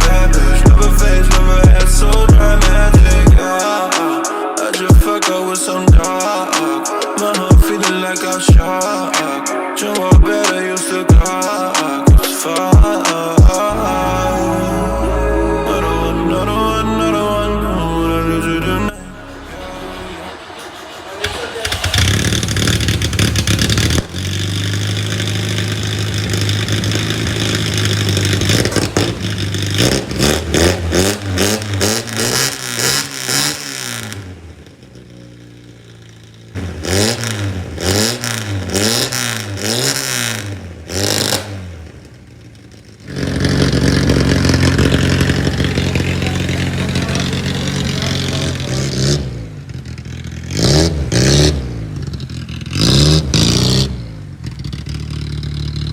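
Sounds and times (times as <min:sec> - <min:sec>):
car engine idling and revving: 0:00.0 - 0:03.4, 0:13.6 - 0:55.9.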